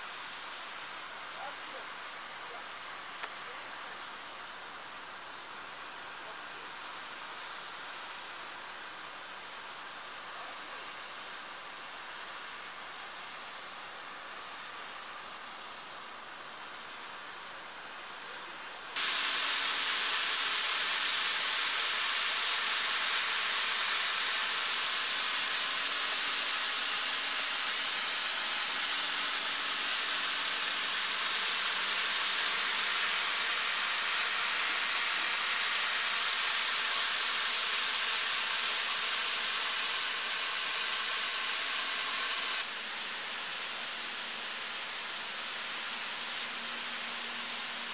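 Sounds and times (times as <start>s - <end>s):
snow guns hissing: 0.0s - 47.9s.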